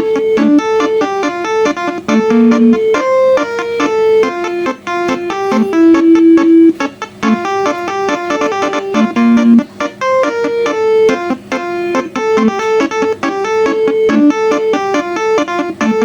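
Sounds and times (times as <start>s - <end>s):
bus horn playing melody: 0.0s - 16.0s.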